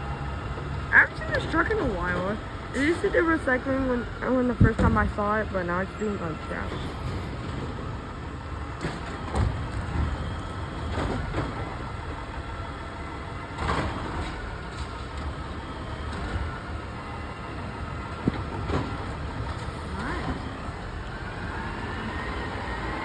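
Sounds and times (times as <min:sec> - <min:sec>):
garbage truck engine rumbling: 0:00.0 - 0:23.0.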